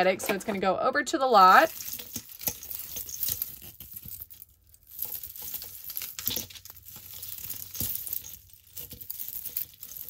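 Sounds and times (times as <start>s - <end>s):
metal chains and beads clinking: 1.4s - 10.0s.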